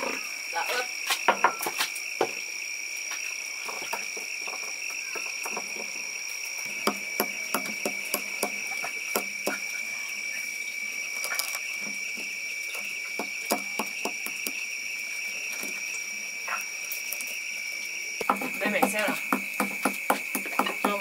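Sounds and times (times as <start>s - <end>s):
high insect chorus: 0.0s - 21.0s.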